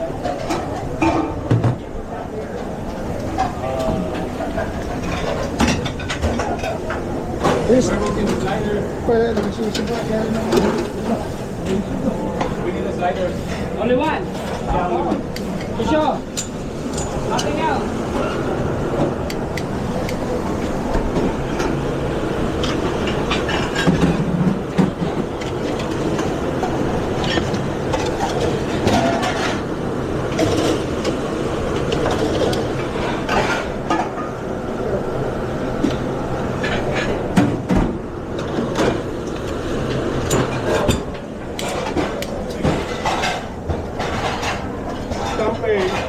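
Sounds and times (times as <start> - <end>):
kitchen equipment rumble: 0.0 - 46.0.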